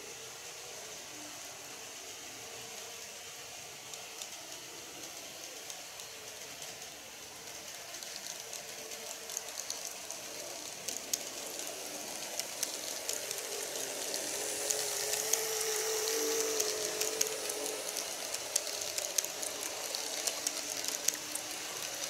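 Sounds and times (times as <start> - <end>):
model train motor whine: 0.0 - 22.0
wheels clicking over track joints: 3.8 - 22.0.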